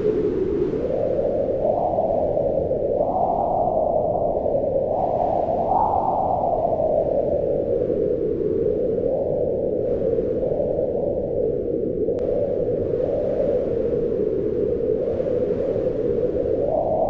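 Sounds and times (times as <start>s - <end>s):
howling wind whistling: 0.0s - 17.0s.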